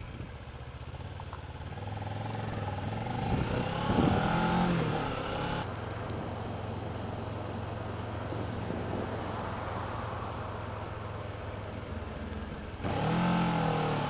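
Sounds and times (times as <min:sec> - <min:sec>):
motorcycle engine running: 0:00.0 - 0:09.1, 0:10.5 - 0:14.0
wind and road noise: 0:00.0 - 0:14.0.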